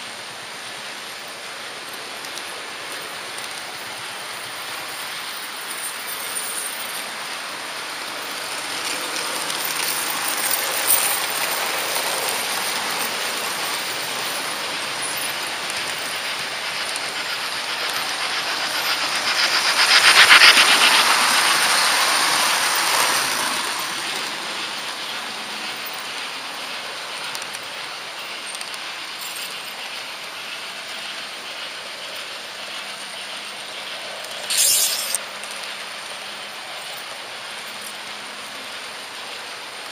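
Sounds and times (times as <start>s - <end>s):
model train wheels hissing on rail: 0.0s - 39.9s
model locomotive clattering past: 0.2s - 39.9s.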